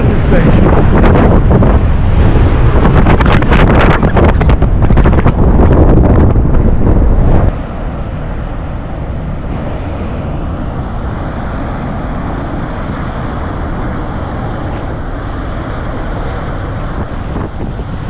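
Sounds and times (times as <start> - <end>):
volcanic vent roaring: 0.0 - 18.0.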